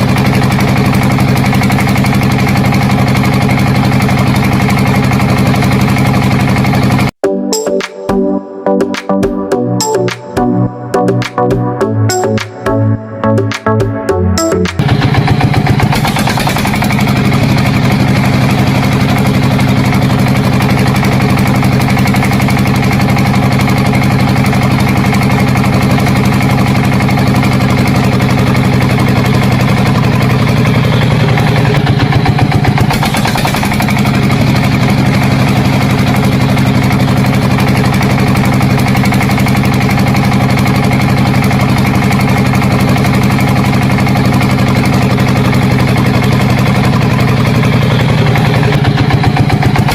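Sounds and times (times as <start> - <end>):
small engine running steadily: 0.0 - 7.2, 8.9 - 49.9.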